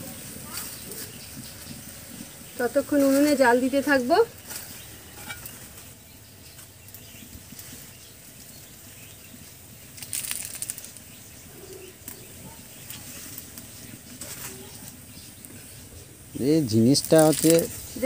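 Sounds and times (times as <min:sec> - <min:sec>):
dry sticks and leaves rustling: 0:00.0 - 0:18.0
wood fire crackling: 0:00.0 - 0:18.0.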